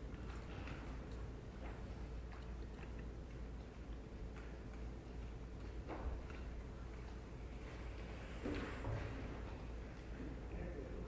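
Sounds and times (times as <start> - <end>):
low room hum: 0.0 - 11.0
faint knocks and clicks: 0.1 - 10.4.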